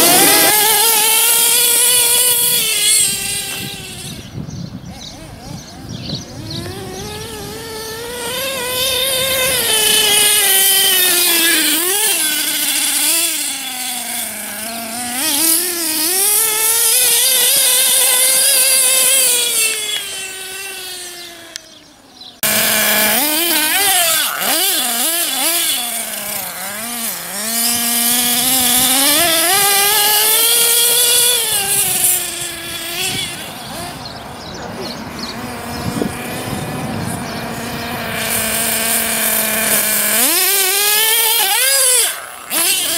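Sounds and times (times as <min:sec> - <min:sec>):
small nitro engine revving: 0:00.0 - 0:42.9.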